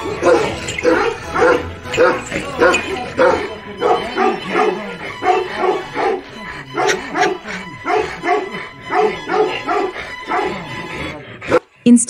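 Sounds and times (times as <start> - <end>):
dog barking deeply: 0.0 - 11.7.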